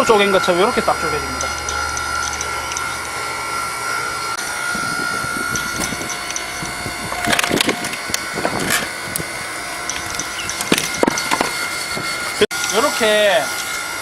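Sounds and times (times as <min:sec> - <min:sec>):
log splitter motor whining: 0:00.0 - 0:14.0.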